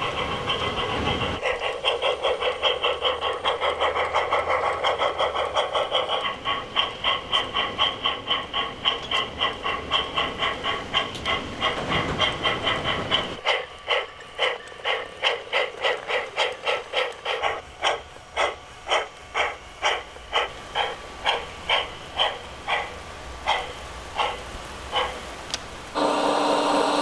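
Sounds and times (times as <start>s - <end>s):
model steam locomotive chuffing: 0.0s - 27.0s.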